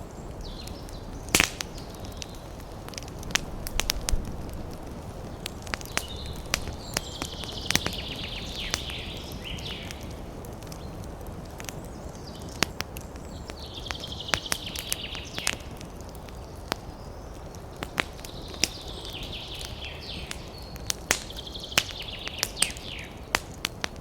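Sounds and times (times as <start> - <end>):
fire rumbling and crackling: 0.0 - 24.0.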